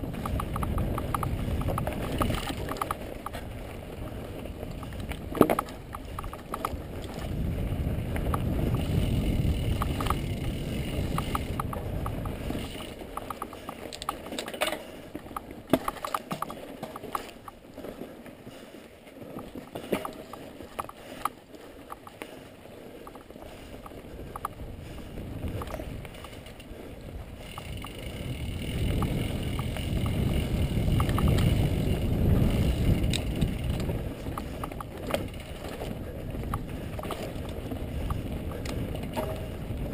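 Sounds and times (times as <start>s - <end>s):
wind rumbling on microphone: 0.0s - 17.5s, 21.8s - 39.9s
bike clicking and rattling: 0.0s - 39.9s
bike tyres on dirt and stones: 0.0s - 39.9s.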